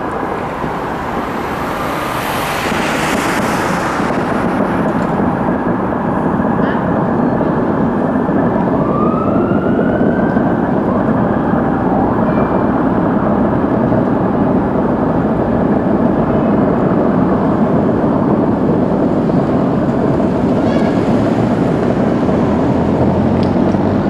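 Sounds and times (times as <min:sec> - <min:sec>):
fireworks display din: 0:00.0 - 0:23.6.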